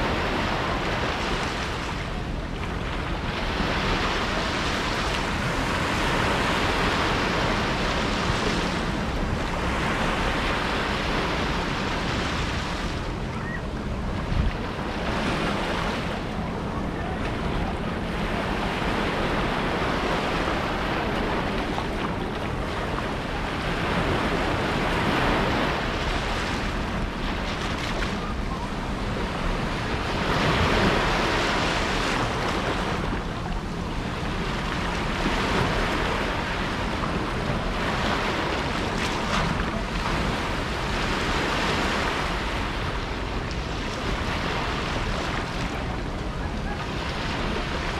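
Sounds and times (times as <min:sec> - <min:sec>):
small waves washing on shore: 0:00.0 - 0:47.9
wind on microphone: 0:00.0 - 0:47.9.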